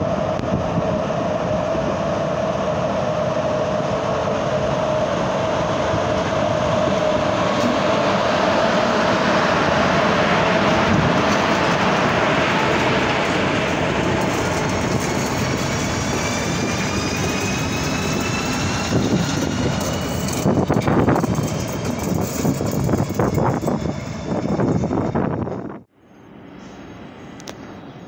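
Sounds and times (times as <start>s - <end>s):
electric locomotives rumbling past: 0.0s - 28.0s.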